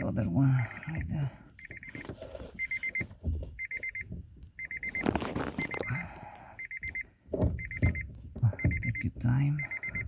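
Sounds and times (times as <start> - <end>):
car warning chime beeps: 0.0 - 10.0.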